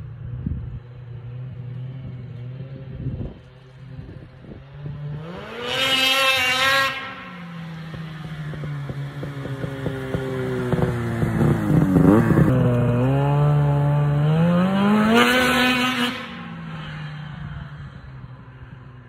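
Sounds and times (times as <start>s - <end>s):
snowmobile engine passing by: 0.0s - 19.0s.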